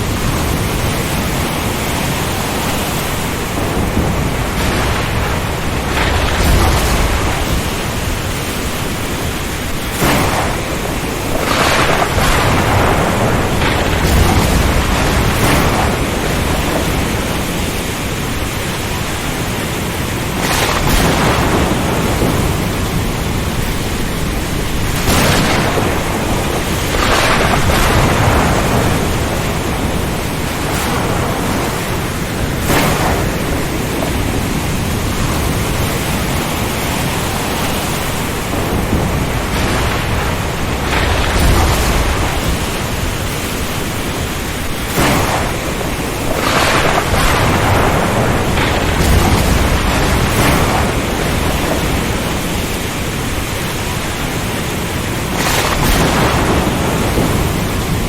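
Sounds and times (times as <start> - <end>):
rain: 0.0 - 58.0
surf: 0.0 - 58.0
thunder cracks: 0.0 - 58.0
wind: 0.0 - 58.0.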